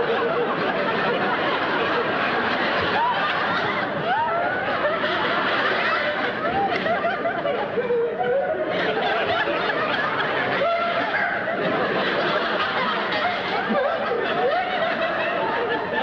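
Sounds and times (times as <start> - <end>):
audience laughing: 0.0 - 16.0.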